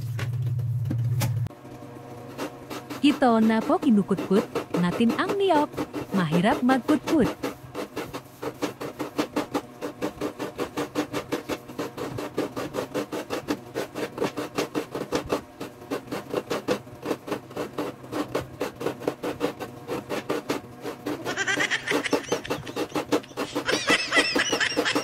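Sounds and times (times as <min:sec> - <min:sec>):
coconut grater rasping: 0:02.0 - 0:25.0.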